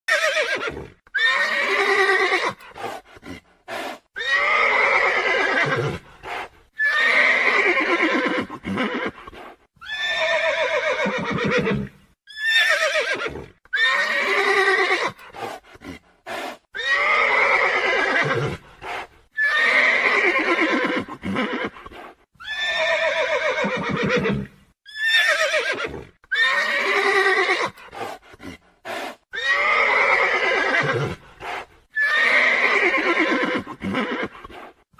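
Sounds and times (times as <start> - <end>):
horse whinnying: 0.1 - 2.9, 3.8 - 15.4, 16.8 - 18.6, 19.4 - 28.1, 28.9 - 34.6.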